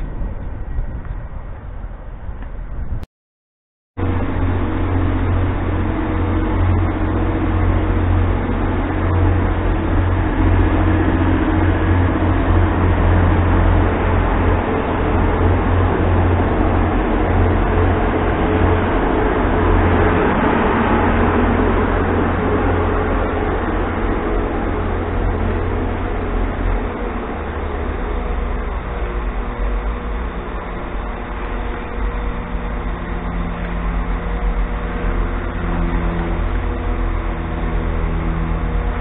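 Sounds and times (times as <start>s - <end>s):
steady tones: 4.0s - 39.0s
train engine droning: 4.0s - 39.0s.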